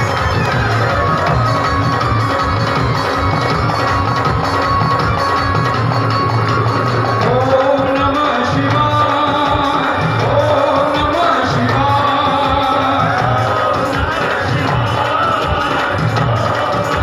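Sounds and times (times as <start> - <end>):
band drum and bass beat: 0.0 - 17.0.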